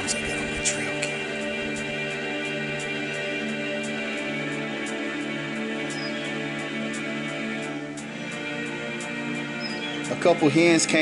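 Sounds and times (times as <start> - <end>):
soft music with sustained tones: 0.0 - 11.0.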